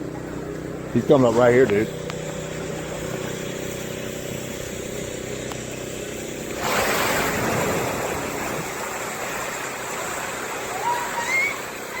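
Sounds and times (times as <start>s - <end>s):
engine humming: 0.0s - 12.0s
water splashing: 0.3s - 12.0s.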